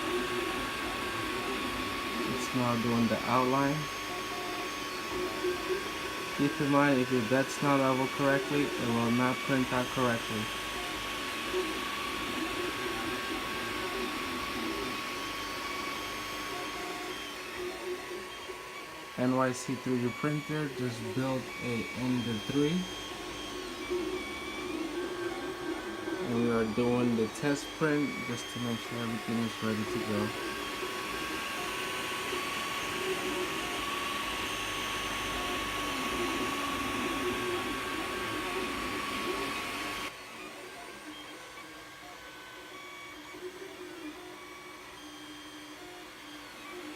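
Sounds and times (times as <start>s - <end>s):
cooling fans whirring: 0.0s - 46.9s
stepper motors whining: 0.0s - 46.9s.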